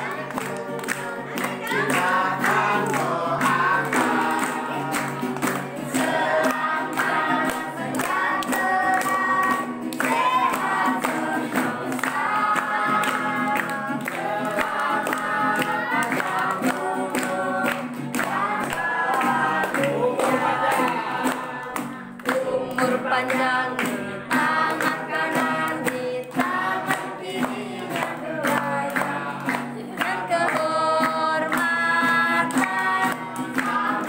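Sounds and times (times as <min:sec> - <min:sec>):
group singing: 0:00.0 - 0:34.0
hands clapping: 0:00.0 - 0:34.0.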